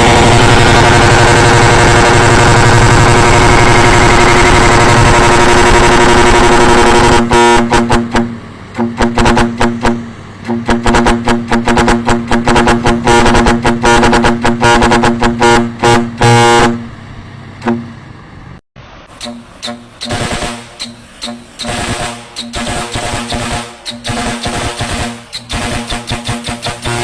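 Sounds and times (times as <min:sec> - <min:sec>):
truck horn honking: 0:00.0 - 0:17.0, 0:17.6 - 0:18.0, 0:19.2 - 0:27.0.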